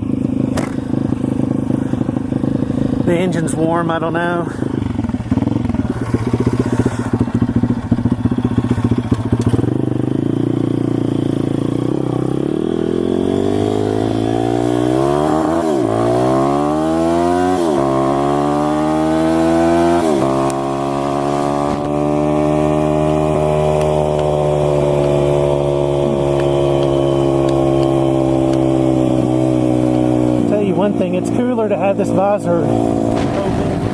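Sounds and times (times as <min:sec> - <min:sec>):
motorbike engine accelerating: 0:00.0 - 0:33.9.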